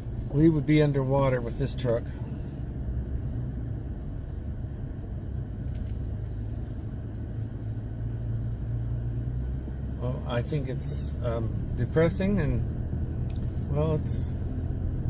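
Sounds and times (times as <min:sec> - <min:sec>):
truck engine rumble from cab: 0:00.0 - 0:15.0.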